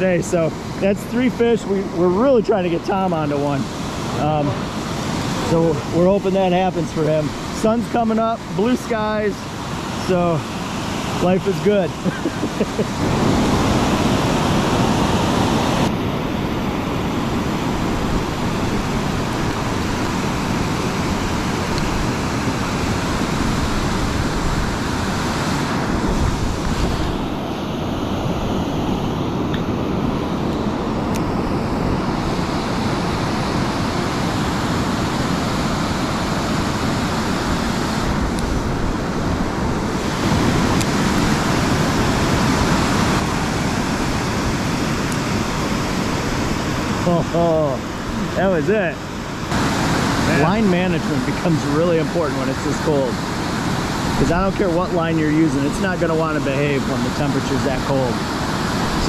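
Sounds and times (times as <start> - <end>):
fast-flowing water rushing: 0.0 - 59.0.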